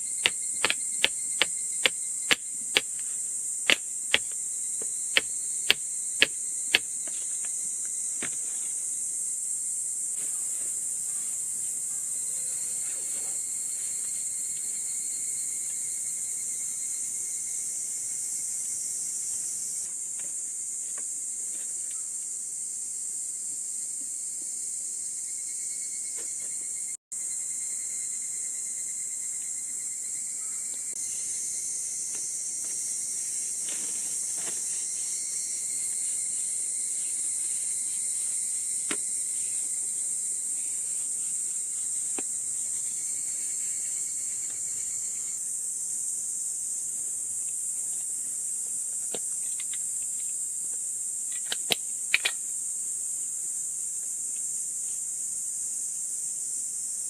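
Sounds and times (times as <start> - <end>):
insects calling: 0.0 - 57.0.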